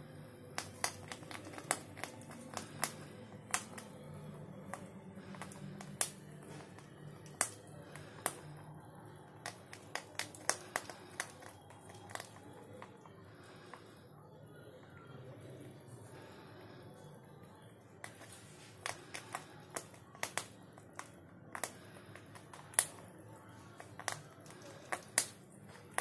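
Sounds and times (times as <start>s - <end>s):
rabbits nibbling chocolate: 0.0s - 26.0s.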